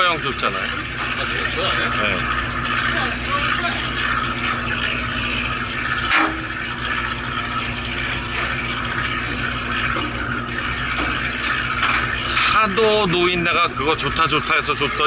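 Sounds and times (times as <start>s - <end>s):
boat engine humming: 0.0s - 15.0s
water sloshing against hull: 0.0s - 15.0s.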